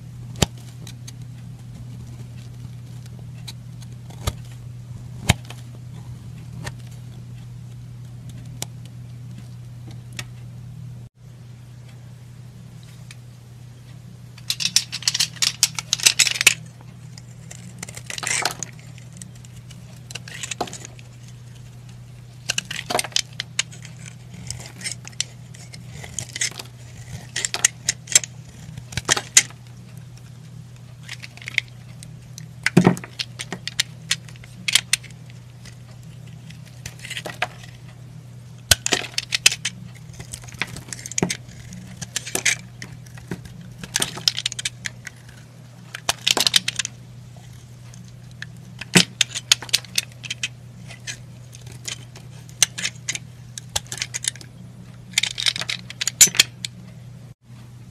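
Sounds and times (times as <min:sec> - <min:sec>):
faint steady low hum: 0:00.0 - 0:57.9.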